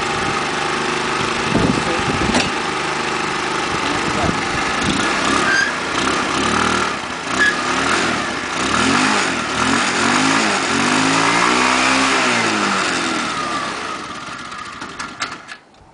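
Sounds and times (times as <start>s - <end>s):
scooter engine revving: 0.0s - 15.6s.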